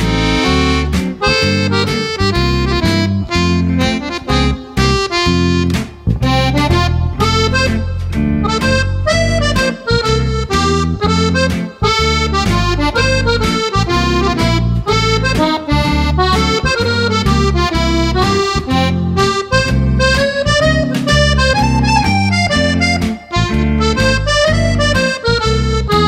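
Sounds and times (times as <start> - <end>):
accordion music: 0.0 - 26.0.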